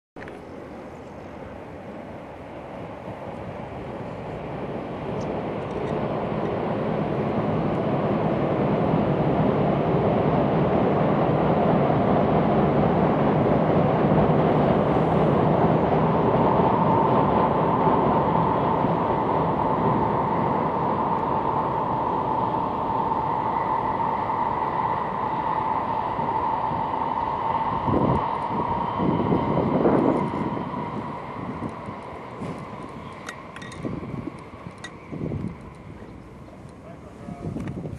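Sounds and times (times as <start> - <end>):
high-speed train rushing roar: 0.2 - 37.9
steady whine: 0.2 - 37.9.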